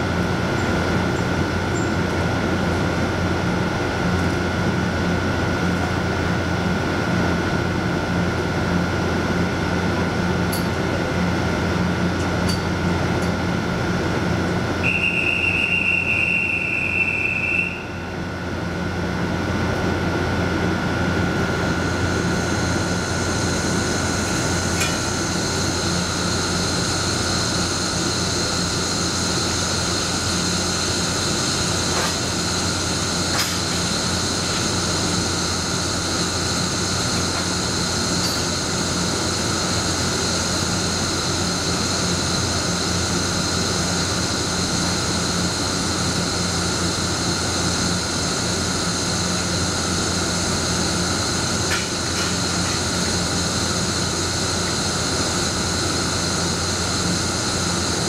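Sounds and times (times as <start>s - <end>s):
electric locomotive humming: 0.0s - 58.0s
high steady whine: 0.0s - 58.0s.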